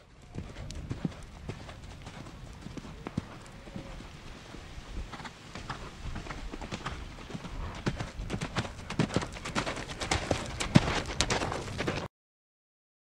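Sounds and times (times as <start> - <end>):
horses galloping hoofbeats: 0.0 - 12.1.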